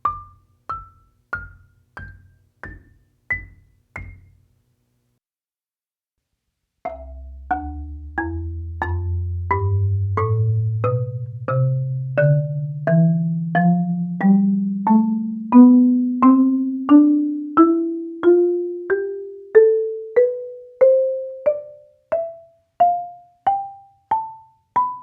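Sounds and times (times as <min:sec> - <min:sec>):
marimba playing ascending scale: 0:00.0 - 0:04.4, 0:06.9 - 0:25.0.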